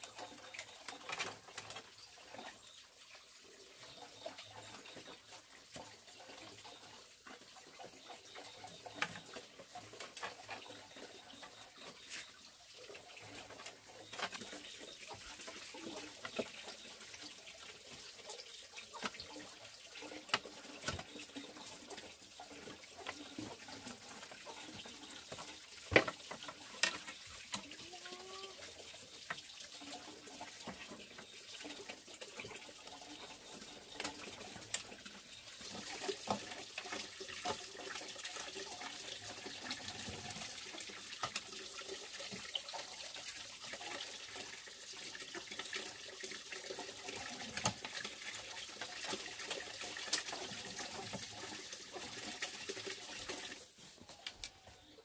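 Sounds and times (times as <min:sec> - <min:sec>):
running stream water: 0:00.0 - 0:55.0.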